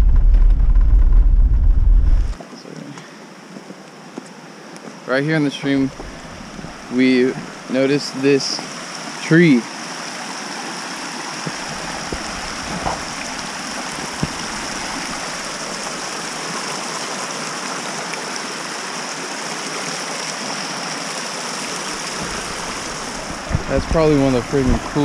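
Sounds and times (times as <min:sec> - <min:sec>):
stream splashing over rocks: 0:02.4 - 0:25.0.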